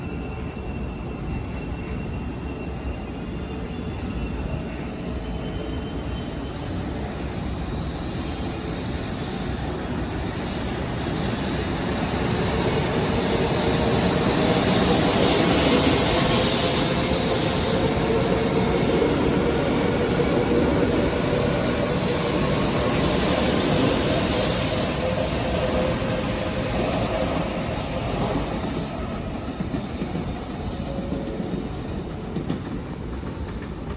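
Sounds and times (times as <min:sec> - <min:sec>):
train rumbling and rushing: 0:00.0 - 0:33.9.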